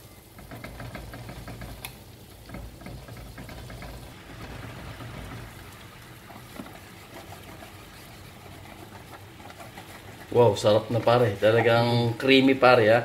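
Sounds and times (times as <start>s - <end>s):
butter sizzling in a frying pan: 0.0s - 13.0s
wooden spatula scraping: 0.0s - 13.0s
liquid pouring: 0.4s - 12.2s.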